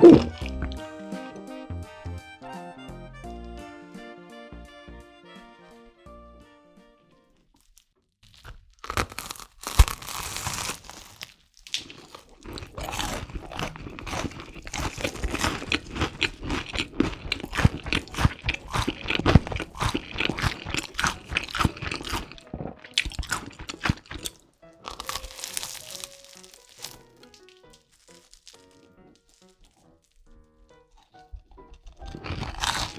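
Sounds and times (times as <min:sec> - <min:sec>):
crunchy food chewing: 0:00.0 - 0:01.2, 0:07.4 - 0:32.9.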